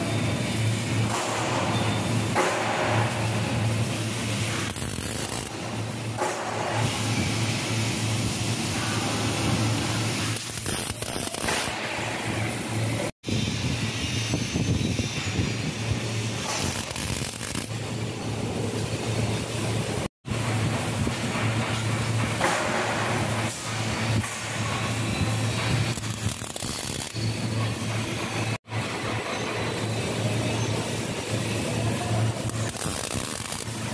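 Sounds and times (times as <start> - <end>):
welding arc crackling: 0.0 - 33.9.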